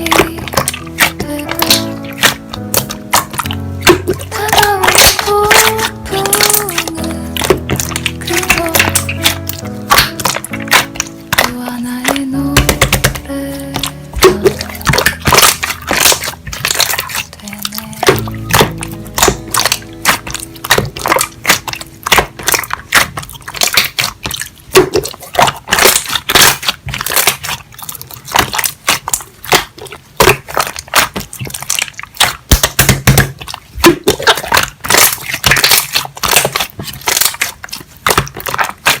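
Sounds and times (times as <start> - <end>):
crackles and pops of slime: 0.0 - 39.0
slime squished by hand: 0.0 - 39.0.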